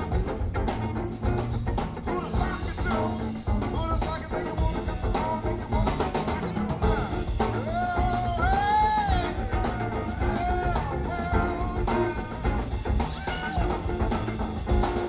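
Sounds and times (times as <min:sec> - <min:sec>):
rock and roll music: 0:00.0 - 0:15.0.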